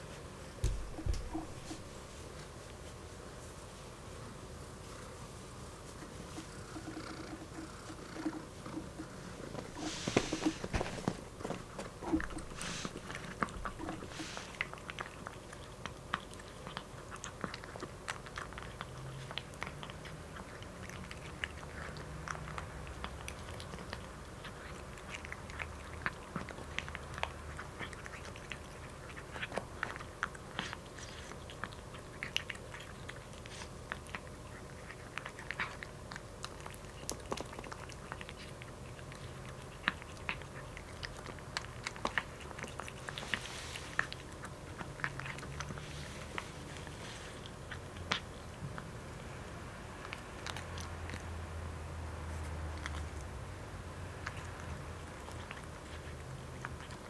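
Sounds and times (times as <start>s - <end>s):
cat crunching dry kibble: 5.9s - 49.0s, 54.1s - 57.0s.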